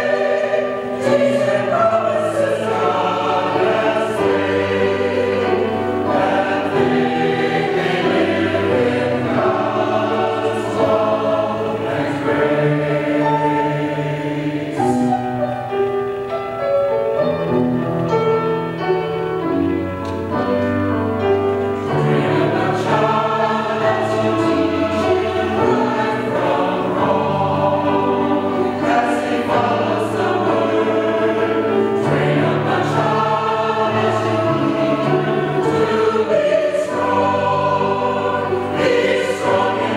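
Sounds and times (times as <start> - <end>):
choir singing: 0.0 - 16.3, 20.3 - 39.9
piano accompaniment: 0.0 - 39.9.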